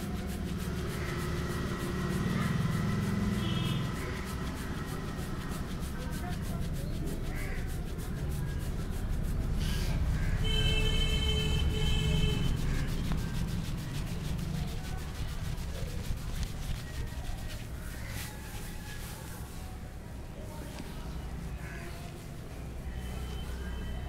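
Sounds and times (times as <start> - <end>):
hands rubbing scalp and hair: 0.0 - 24.0
low rumble of street noise: 0.0 - 24.0.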